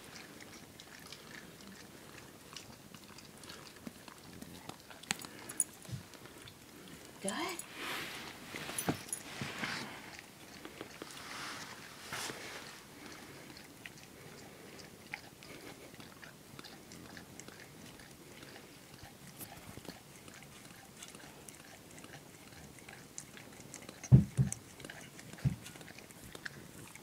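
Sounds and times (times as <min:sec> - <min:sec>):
dog licking: 0:00.0 - 0:27.0.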